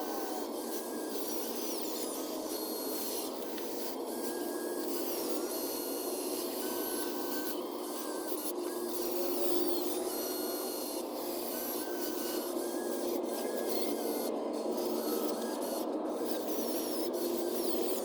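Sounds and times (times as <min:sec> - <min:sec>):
small electric motors whirring: 0:00.0 - 0:18.0.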